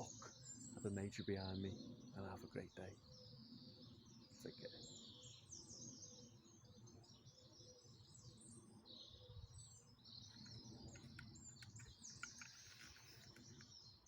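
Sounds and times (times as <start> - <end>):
small birds chirping and trilling: 0.0 - 14.0.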